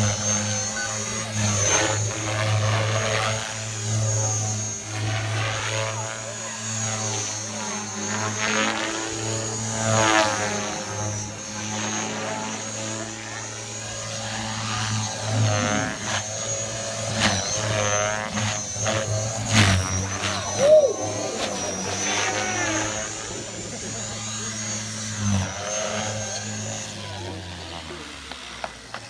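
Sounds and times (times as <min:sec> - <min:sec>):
helicopter rotor buzz: 0:00.0 - 0:29.0
motor high whine: 0:00.0 - 0:29.0.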